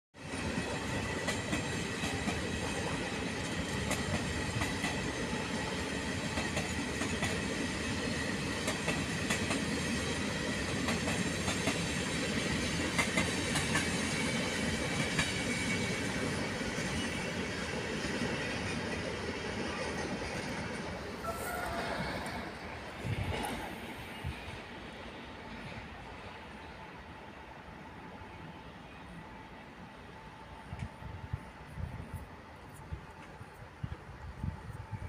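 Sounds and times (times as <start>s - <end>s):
train rumbling past: 0.2s - 35.0s.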